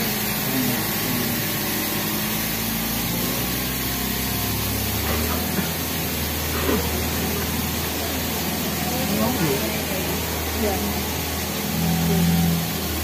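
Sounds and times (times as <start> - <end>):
boat motor hum: 0.0 - 13.0
waterfall rushing: 0.0 - 13.0.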